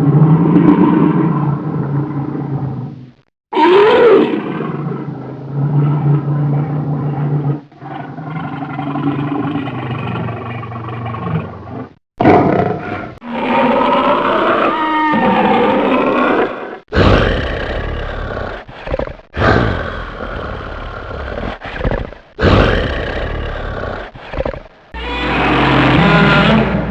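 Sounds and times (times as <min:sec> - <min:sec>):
tiger roaring and growling: 0:03.6 - 0:26.9.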